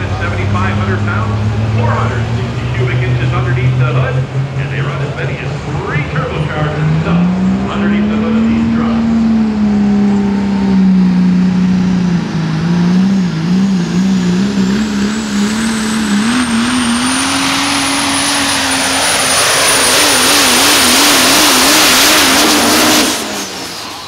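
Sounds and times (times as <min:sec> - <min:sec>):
diesel engine revving hard: 0:00.0 - 0:24.0.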